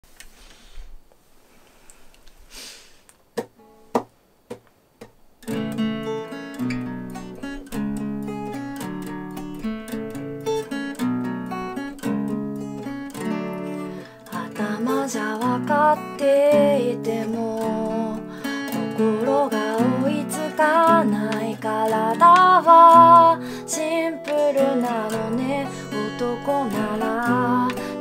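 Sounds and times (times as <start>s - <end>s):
guitar clicks: 3.4s - 15.6s, 17.3s - 28.0s
acoustic guitar playing: 3.5s - 4.1s, 5.4s - 28.0s.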